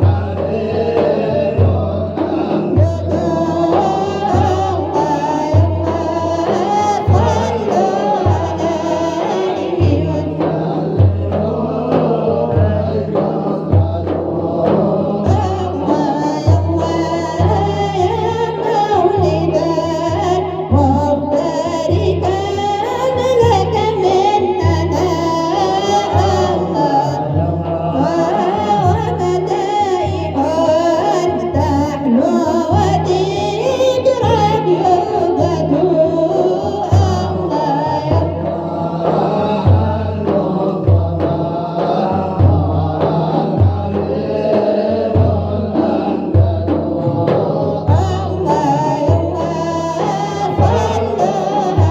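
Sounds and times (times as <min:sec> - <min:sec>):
men singing devotional song: 0:00.0 - 0:51.9.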